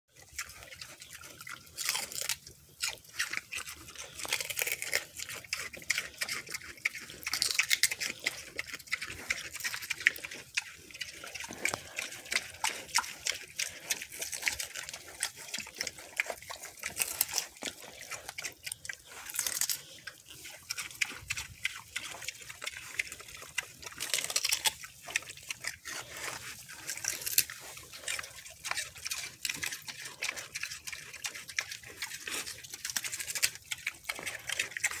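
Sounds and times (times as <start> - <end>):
pigs chewing and crunching: 0.1 - 35.0.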